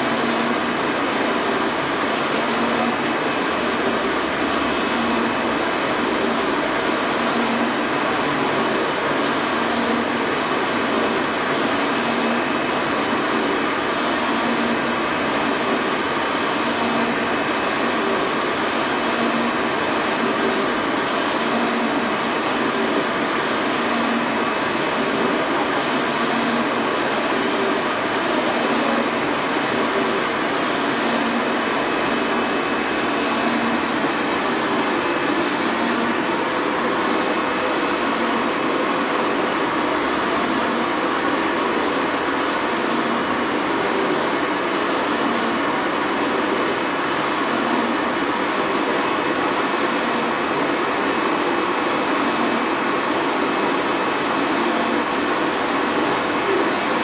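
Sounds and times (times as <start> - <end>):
printer pulsing hiss-like noise: 0.0 - 57.0.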